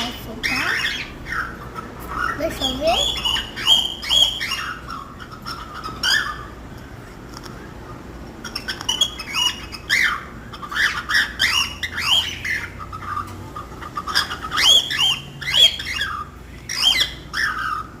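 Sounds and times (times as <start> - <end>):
cockatiel chick chirping: 0.0 - 6.6, 8.4 - 17.9.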